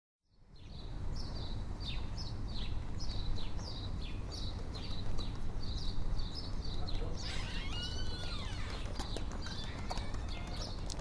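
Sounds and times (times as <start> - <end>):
small birds chirping: 0.3 - 11.0.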